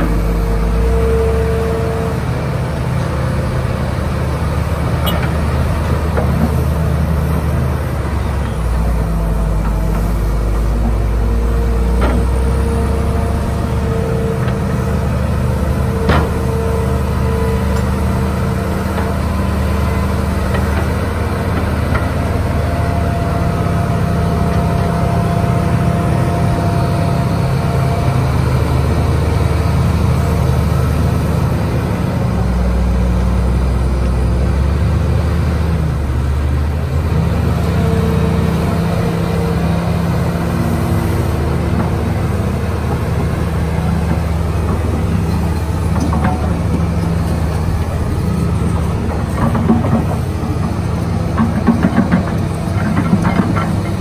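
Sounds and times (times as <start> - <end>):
heavy diesel engines rumbling: 0.0 - 54.0.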